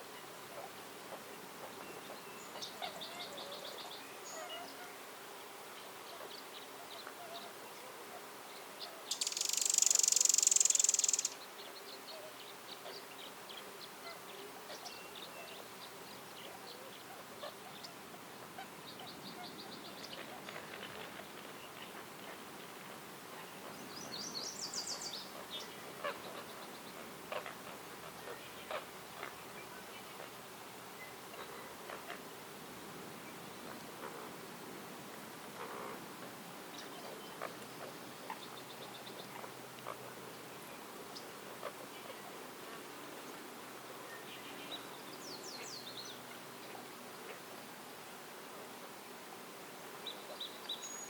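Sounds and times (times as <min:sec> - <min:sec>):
bird calls and trills: 0:00.0 - 0:05.1, 0:05.7 - 0:22.4, 0:23.3 - 0:32.2, 0:36.7 - 0:47.6, 0:50.0 - 0:51.0.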